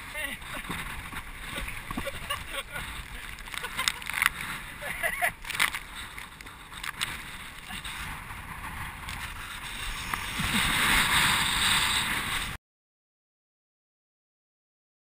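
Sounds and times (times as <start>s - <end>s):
surf breaking and rushing water: 0.0s - 12.6s.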